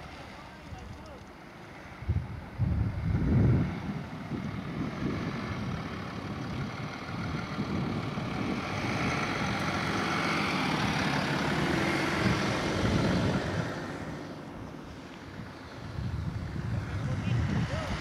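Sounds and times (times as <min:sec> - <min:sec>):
car driving past: 0:03.0 - 0:18.0.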